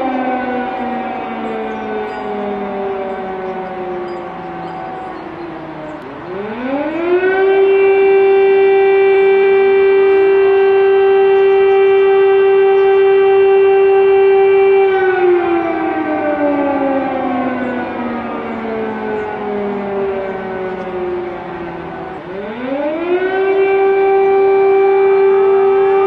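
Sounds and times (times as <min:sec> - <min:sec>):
air raid siren wailing: 0:00.0 - 0:26.0.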